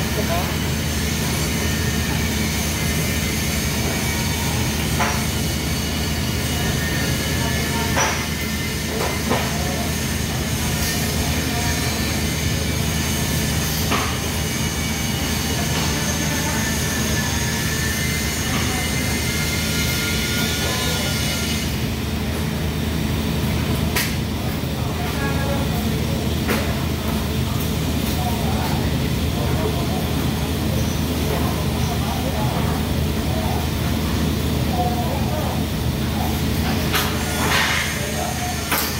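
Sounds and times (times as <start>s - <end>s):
low hum of welding setup: 0.0s - 38.9s.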